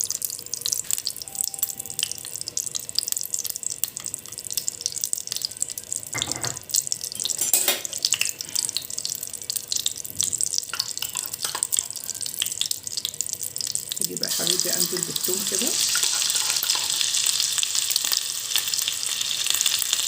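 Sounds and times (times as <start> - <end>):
oil sizzling in a hot pan: 0.0 - 20.0.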